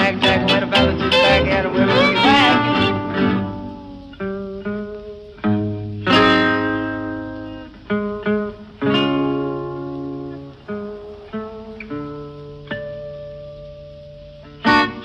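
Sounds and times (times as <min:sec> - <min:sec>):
plucked string chords: 0:00.0 - 0:15.0.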